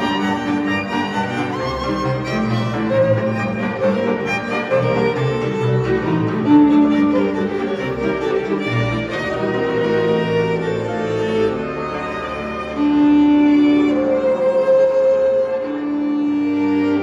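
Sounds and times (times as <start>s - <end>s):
violins playing melody: 0.0s - 17.0s.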